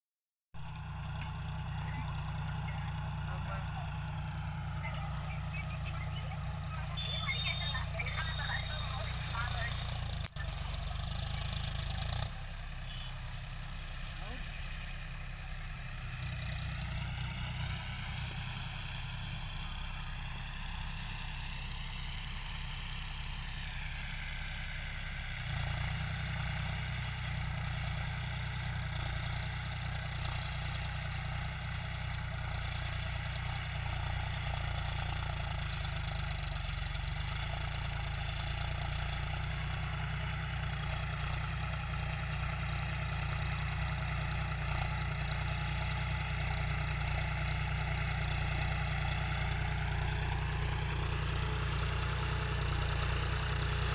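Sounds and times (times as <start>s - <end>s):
tractor diesel engine running: 0.6s - 53.9s.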